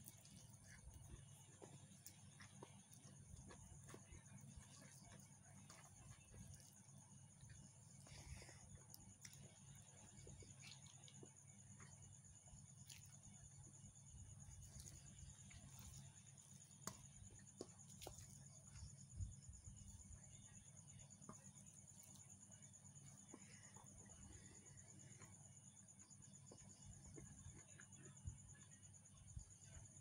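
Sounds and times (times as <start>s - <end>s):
eating rice by hand: 0.0s - 30.0s.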